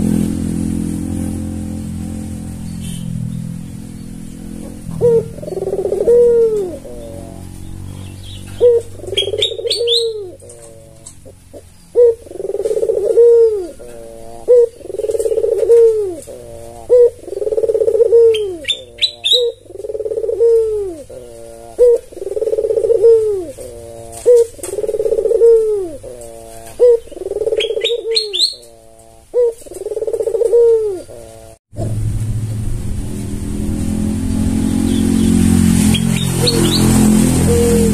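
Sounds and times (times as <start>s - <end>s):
dove cooing: 4.4s - 32.0s, 34.9s - 37.9s.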